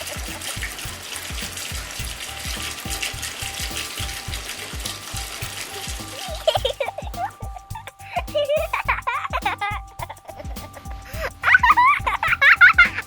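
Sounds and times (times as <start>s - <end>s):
music with low beat: 0.0s - 13.0s.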